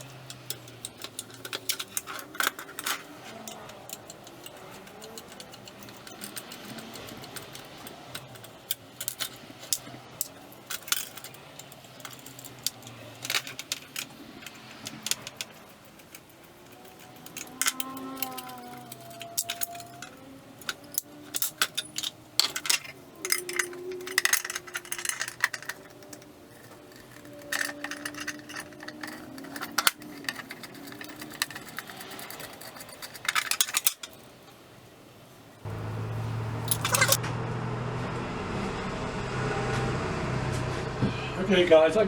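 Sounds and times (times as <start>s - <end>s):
small metal parts clinking: 0.0s - 35.8s, 36.6s - 37.2s.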